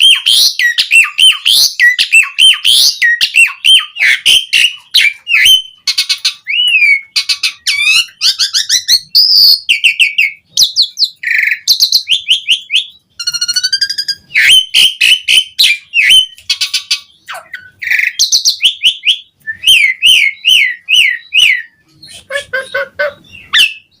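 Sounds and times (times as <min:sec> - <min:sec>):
starling singing: 0:00.0 - 0:24.0.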